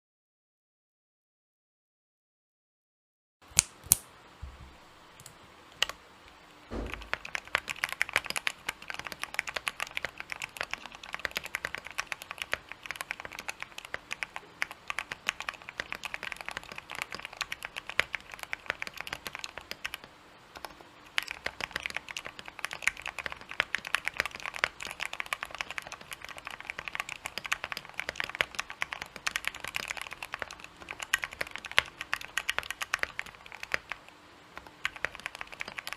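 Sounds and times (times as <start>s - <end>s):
mechanical keyboard typing: 6.8s - 35.9s.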